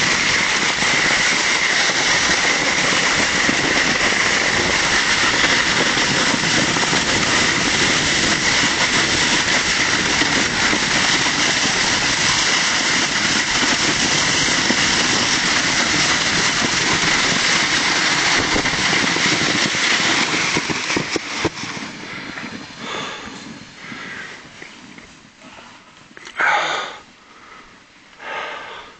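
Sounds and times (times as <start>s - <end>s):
plastic sled scraping over snow: 0.0s - 25.3s.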